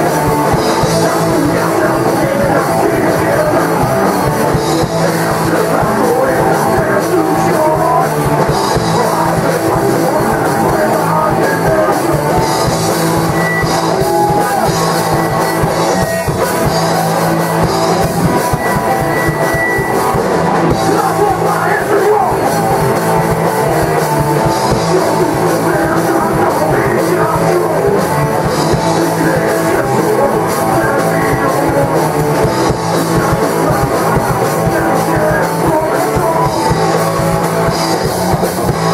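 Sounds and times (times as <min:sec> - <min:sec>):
person singing: 0:00.0 - 0:20.0, 0:20.7 - 0:38.9
bass guitar: 0:00.0 - 0:38.9
drum kit: 0:00.0 - 0:38.9
electric guitars: 0:00.0 - 0:38.9.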